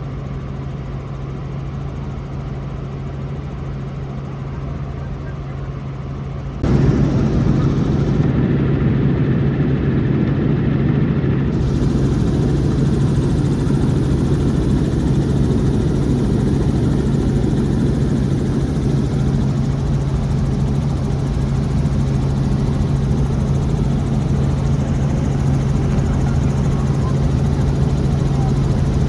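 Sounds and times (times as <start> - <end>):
helicopter engine and rotors droning: 0.0 - 29.0.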